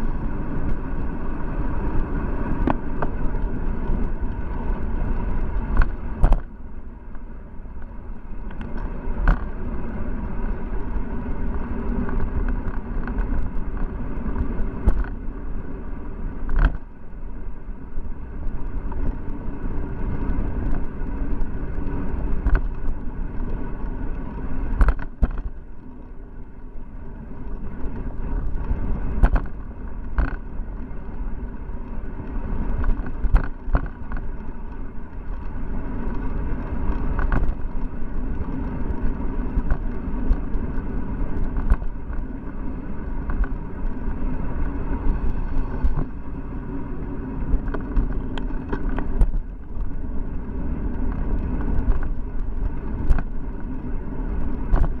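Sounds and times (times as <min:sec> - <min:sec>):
wind noise: 0:00.0 - 0:25.9, 0:26.7 - 0:55.0
bicycle road rumble: 0:00.0 - 0:55.0.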